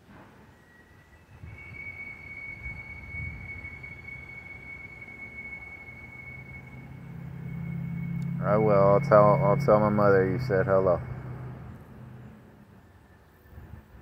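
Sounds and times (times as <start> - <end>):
high-pitched whine: 0.0 - 14.0
low rumble: 1.5 - 14.0.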